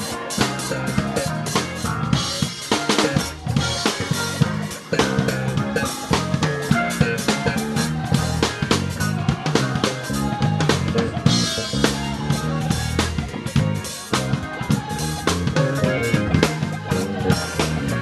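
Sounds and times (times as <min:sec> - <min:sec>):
bass guitar notes: 0:00.0 - 0:18.0
drum kit hits: 0:00.0 - 0:18.0
live band playing loudly: 0:00.0 - 0:18.0.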